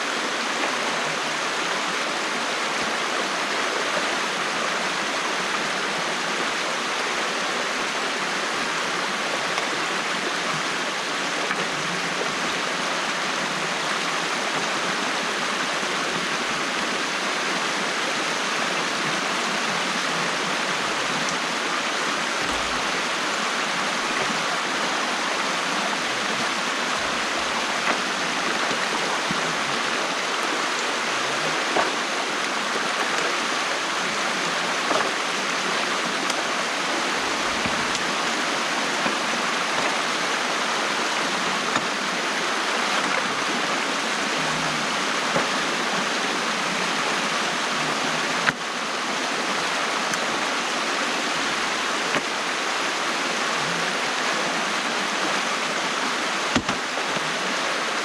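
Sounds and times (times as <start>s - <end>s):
water rushing through a dam: 0.0s - 58.0s.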